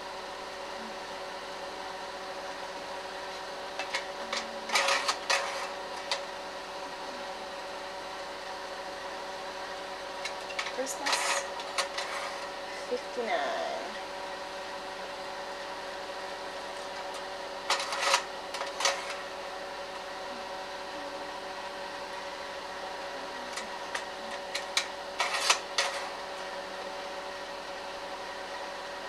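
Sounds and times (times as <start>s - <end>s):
projector fan hum: 0.0s - 29.0s.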